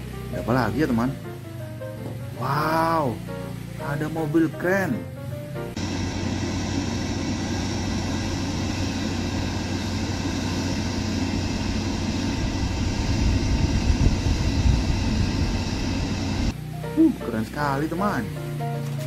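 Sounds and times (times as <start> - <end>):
deep engine rumble: 0.0 - 18.8
diesel engine humming: 0.0 - 19.0.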